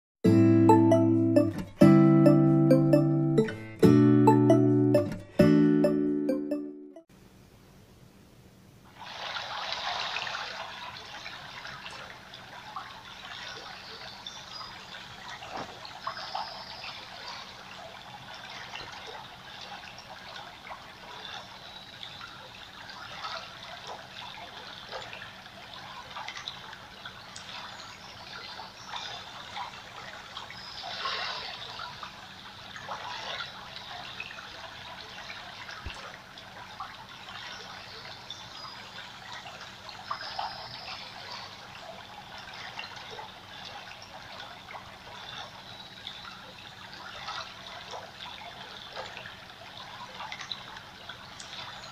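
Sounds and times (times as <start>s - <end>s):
stream gurgling over stones: 8.9s - 51.9s.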